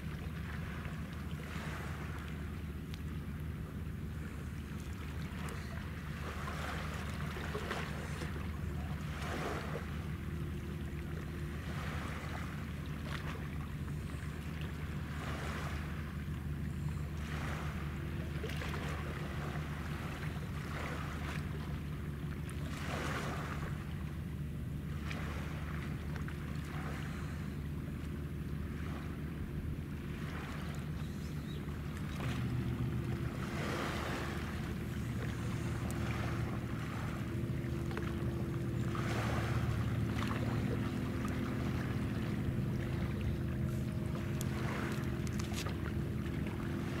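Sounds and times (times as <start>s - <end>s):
low machinery hum: 0.0s - 47.0s
waves lapping: 0.0s - 47.0s.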